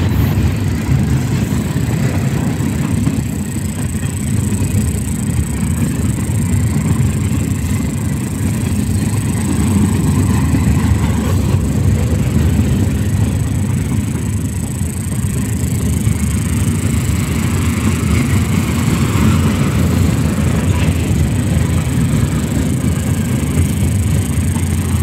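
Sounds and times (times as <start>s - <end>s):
freight train rolling over rails: 0.0s - 25.0s.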